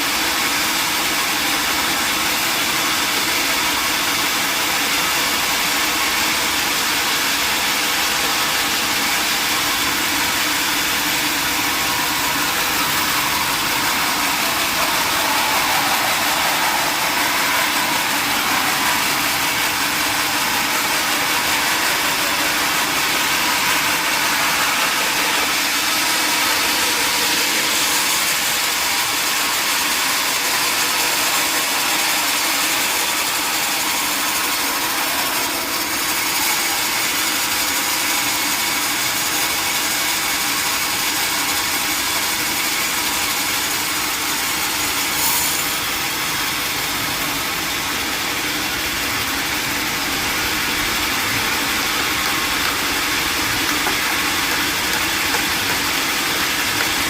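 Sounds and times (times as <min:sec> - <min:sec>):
sawmill saw cutting log: 0:00.1 - 0:57.0.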